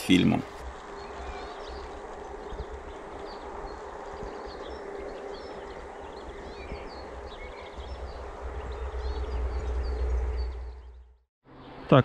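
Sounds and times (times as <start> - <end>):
birds chirping: 0.0 - 12.0
wind rumble on microphone: 0.6 - 11.1.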